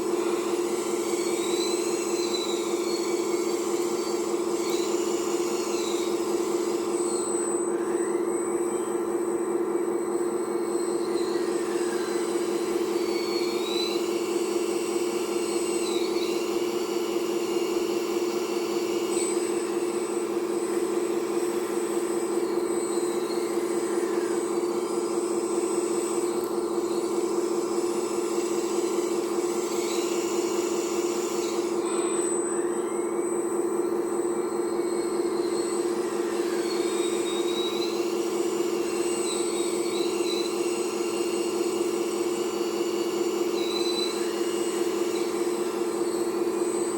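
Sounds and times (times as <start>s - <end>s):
higher-pitched hydraulic whines: 0.0s - 46.9s
hydraulic pump whining: 0.0s - 46.9s.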